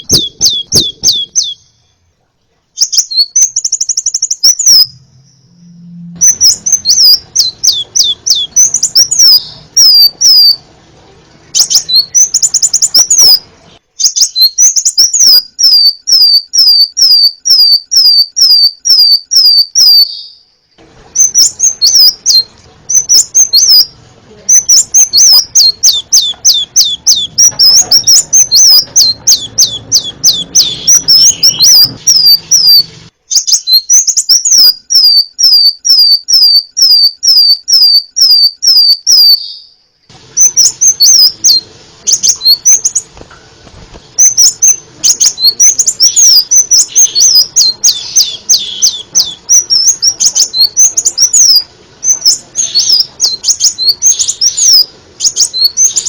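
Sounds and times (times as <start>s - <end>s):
bird singing high notes: 0.0s - 2.0s, 2.8s - 10.6s, 11.5s - 20.5s, 21.2s - 39.8s, 40.4s - 43.1s, 44.2s - 56.0s
buzzy bird trill: 0.0s - 2.0s, 2.8s - 10.7s, 11.4s - 20.5s, 21.1s - 43.2s, 44.0s - 56.0s.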